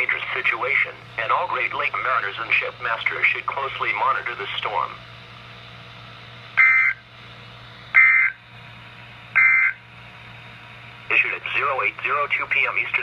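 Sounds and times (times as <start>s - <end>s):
speaker hum and hiss: 0.0s - 13.0s.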